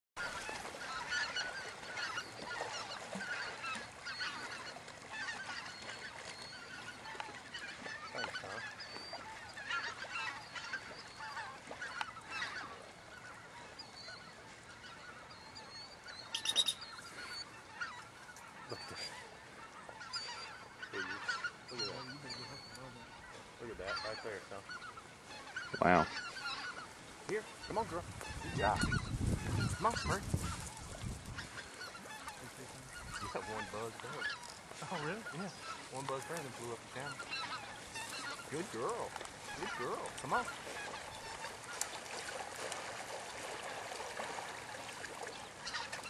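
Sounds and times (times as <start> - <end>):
geese honking: 0.2 - 46.0.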